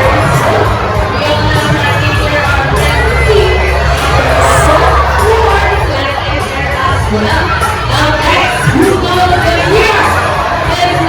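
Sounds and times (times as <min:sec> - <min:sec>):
children shouting and cheering: 0:00.0 - 0:11.0
crowd voices: 0:00.0 - 0:11.0.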